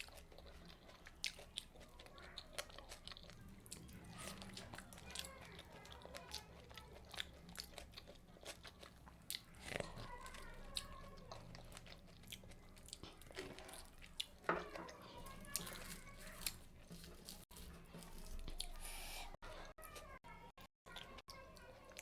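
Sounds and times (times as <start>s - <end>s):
person chewing crunchy food: 0.0s - 19.9s.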